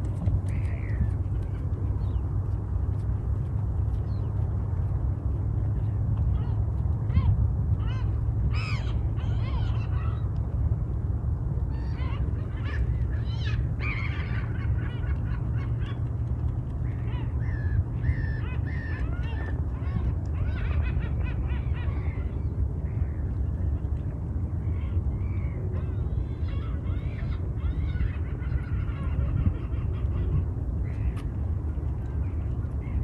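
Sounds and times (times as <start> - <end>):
waterbirds calling: 0.0 - 2.3, 5.8 - 10.3, 11.6 - 33.0
steady low rumble: 0.0 - 33.0.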